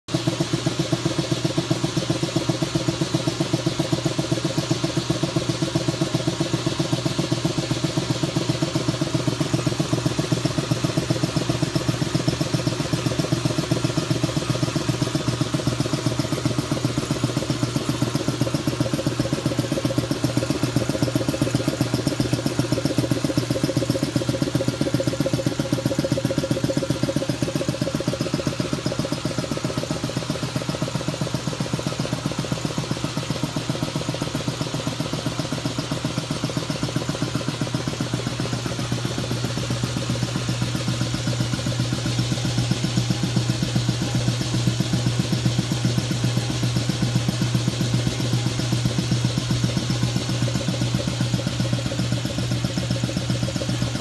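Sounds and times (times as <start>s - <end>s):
air compressor pumping: 0.1s - 54.0s.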